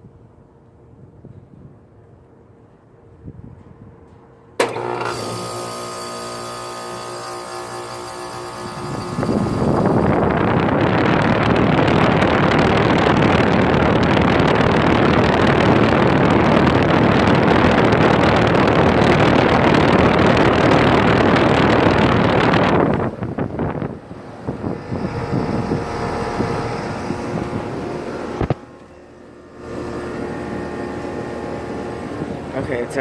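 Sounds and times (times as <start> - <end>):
heat pump fan rushing air: 3.1 - 33.0.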